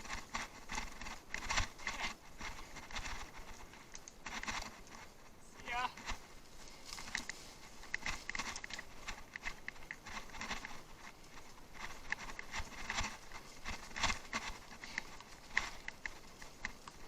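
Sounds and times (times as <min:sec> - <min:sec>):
bicycle clattering over rough ground: 0:00.0 - 0:17.0.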